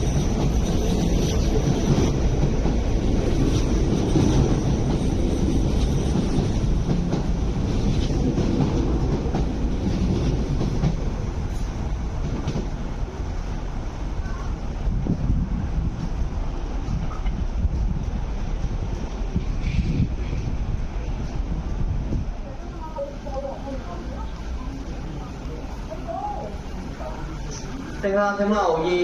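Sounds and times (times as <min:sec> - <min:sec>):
train wheels rumbling and clacking: 0:00.0 - 0:29.0.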